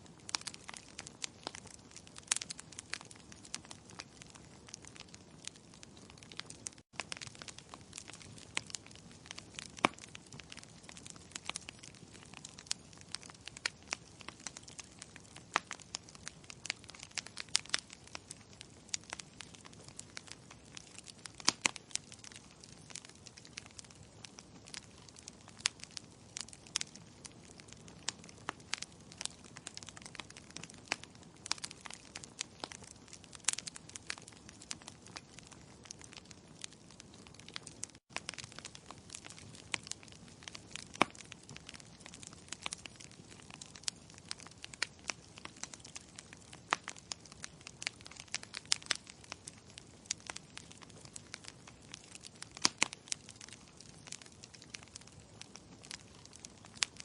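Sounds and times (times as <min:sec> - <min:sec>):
logs crackling and popping in fire: 0:00.0 - 0:57.0
low fire hiss: 0:00.0 - 0:57.0.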